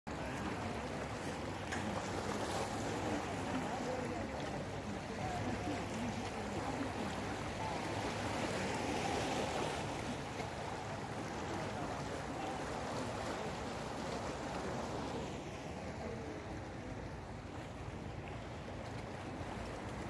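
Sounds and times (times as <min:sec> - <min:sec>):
waves washing against rocky shore: 0:00.1 - 0:20.0.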